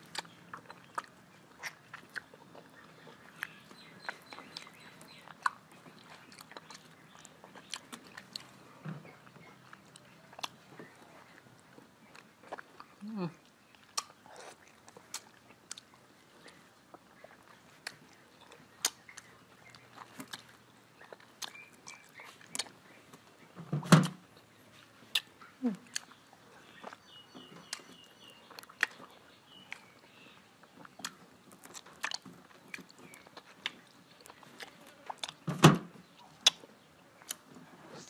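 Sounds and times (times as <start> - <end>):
biting and chewing mango: 0.0 - 38.0.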